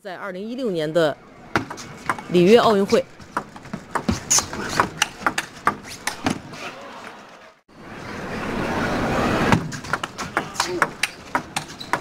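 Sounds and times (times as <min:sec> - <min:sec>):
crowd noise: 0:01.2 - 0:12.0.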